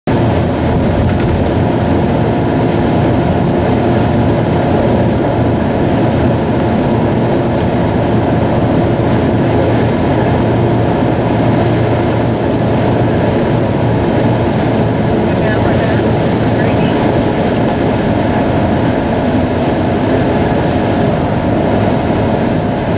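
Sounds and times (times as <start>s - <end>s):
engine drone and road rumble: 0.1s - 22.9s
low hum: 0.1s - 22.9s.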